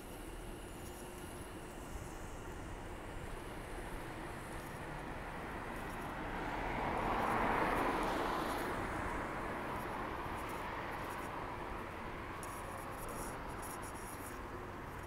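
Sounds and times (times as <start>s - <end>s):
distant city traffic hum: 0.0s - 15.0s.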